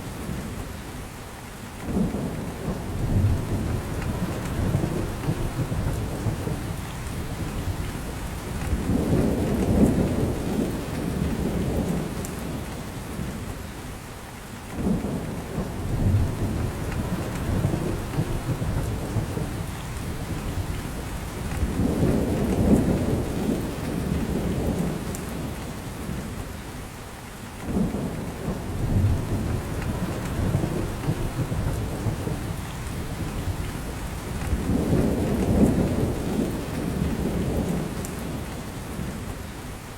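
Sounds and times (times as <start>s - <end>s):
rain falling on forest: 0.0s - 39.9s.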